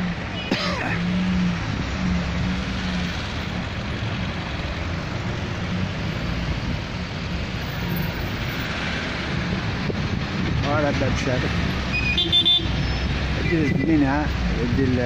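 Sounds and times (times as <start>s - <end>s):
car engines passing: 0.0s - 15.0s.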